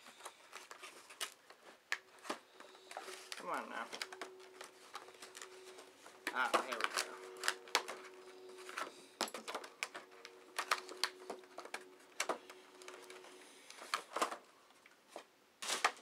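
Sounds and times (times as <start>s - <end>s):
plastic and cardboard rustling: 0.0s - 16.0s.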